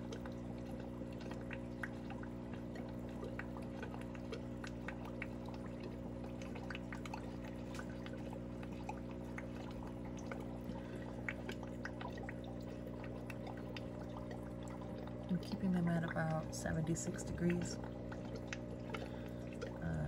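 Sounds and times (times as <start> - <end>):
small drips and pops: 0.0 - 20.0
steady low hum: 0.0 - 20.0
water trickling: 0.0 - 20.0.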